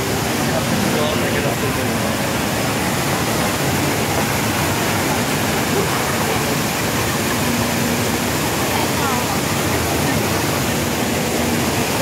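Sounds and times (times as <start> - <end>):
indoor waterfall rushing: 0.0 - 12.0.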